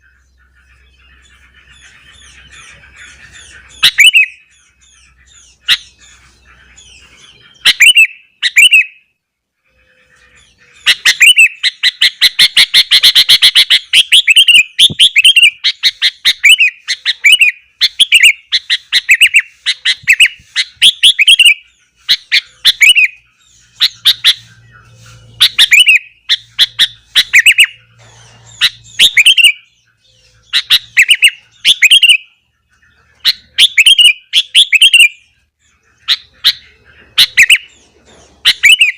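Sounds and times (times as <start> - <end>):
bulbul chirping song: 0.0 - 38.9.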